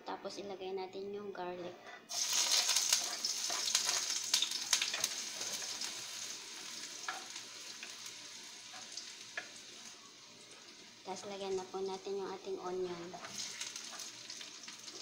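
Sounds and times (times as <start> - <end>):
garlic sizzling in hot oil: 2.1 - 12.2, 13.0 - 15.0.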